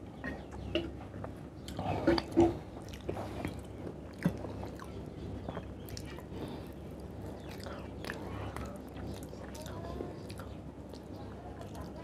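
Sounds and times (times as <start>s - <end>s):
wet chewing and biting: 1.2s - 11.8s.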